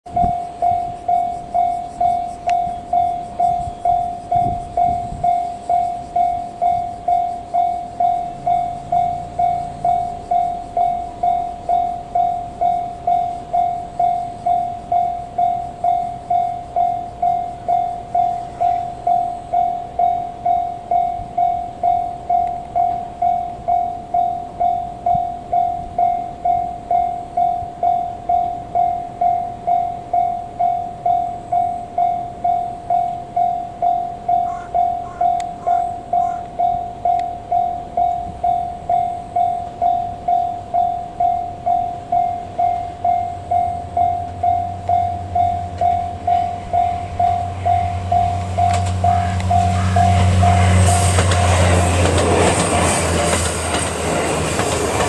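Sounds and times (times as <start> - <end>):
level crossing warning bell: 0.1 - 55.0.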